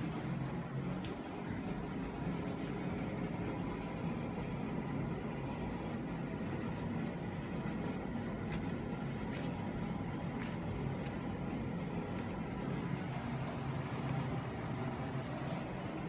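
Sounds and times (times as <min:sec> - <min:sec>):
exhaust fan running: 0:00.0 - 0:16.0.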